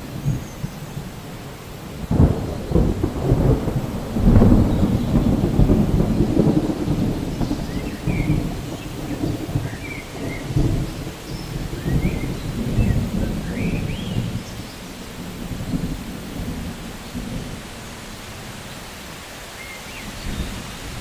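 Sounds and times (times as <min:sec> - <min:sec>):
thunder rumbling: 0:00.0 - 0:19.1
steady rain: 0:00.0 - 0:21.0.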